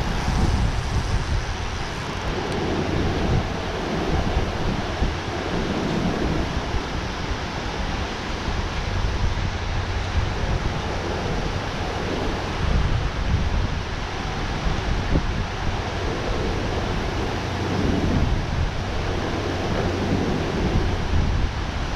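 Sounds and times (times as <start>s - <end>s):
water roaring over dam spillway: 0.0s - 21.9s
wind rumbling on microphone: 0.0s - 21.9s.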